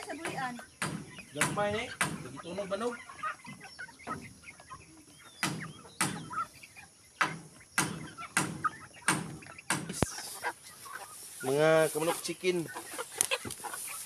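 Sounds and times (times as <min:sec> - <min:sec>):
chickens clucking softly: 0:00.0 - 0:14.0.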